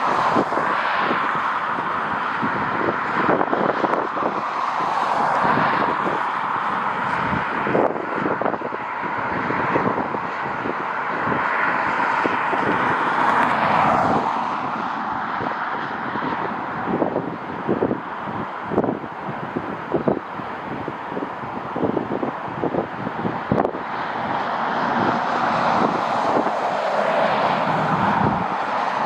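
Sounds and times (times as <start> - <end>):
jet engines rushing: 0.0 - 29.0
wind buffeting microphone: 0.0 - 29.0.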